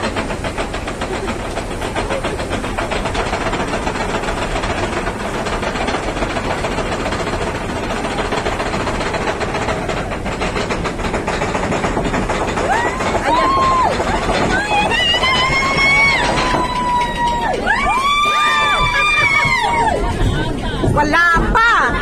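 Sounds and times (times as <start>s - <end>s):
motorboat rushing hiss: 0.0s - 21.0s
boat engine pulse: 0.0s - 22.0s.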